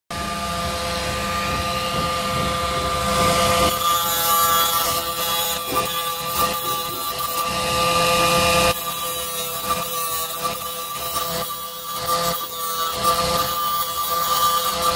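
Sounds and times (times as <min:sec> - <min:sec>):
angle grinder whining: 0:00.1 - 0:14.9
grinding disc on steel: 0:00.1 - 0:14.9.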